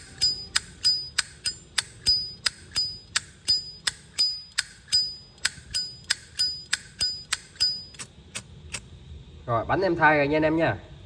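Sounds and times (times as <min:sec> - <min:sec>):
lighter lid clinking: 0:00.0 - 0:08.9.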